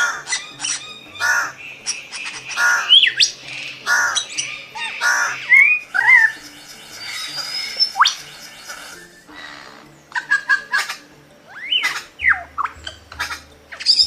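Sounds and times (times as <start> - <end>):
bird whistling: 0.0 - 14.0
birds squawking: 0.0 - 14.0.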